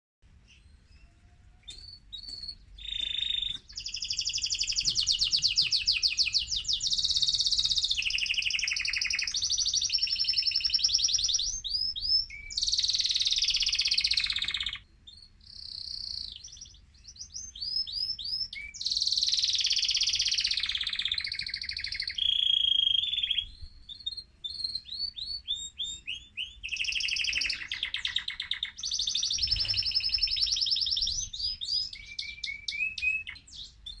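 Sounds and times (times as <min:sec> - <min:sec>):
canary singing trills: 0:00.4 - 0:34.0.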